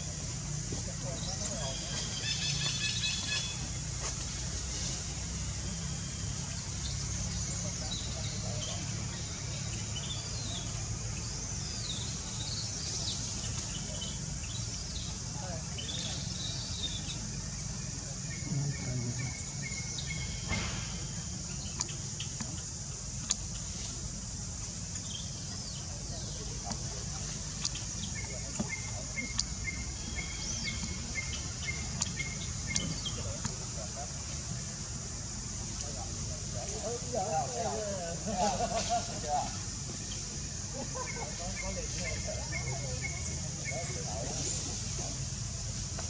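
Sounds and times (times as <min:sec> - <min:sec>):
steady high hiss: 0:00.0 - 0:46.0.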